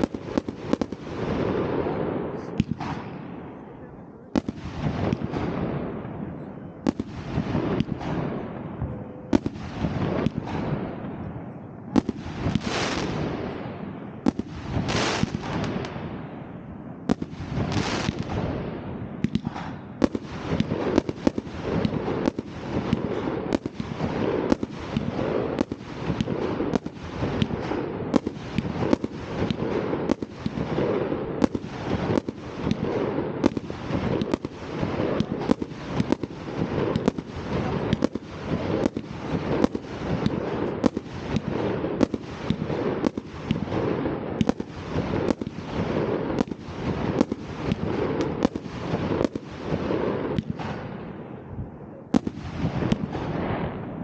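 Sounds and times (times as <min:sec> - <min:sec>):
fireworks crackle and hiss: 0:00.0 - 0:03.3, 0:12.0 - 0:16.5, 0:17.1 - 0:51.0, 0:52.1 - 0:53.9
firework bangs: 0:00.0 - 0:54.0.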